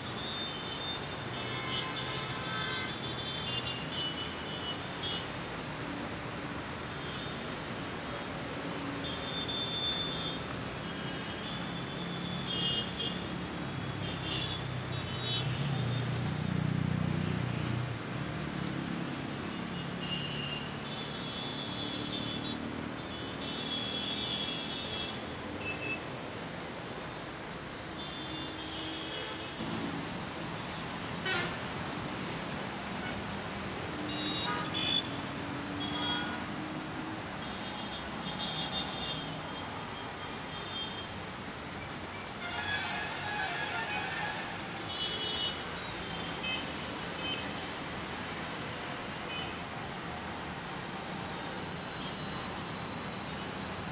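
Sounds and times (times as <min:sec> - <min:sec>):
road traffic hum: 0:00.0 - 0:53.9.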